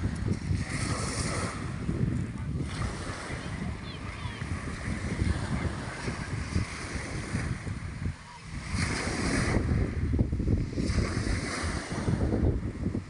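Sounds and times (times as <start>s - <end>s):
sea waves washing onto shore: 0.0s - 13.0s
wind buffeting microphone: 0.0s - 13.0s.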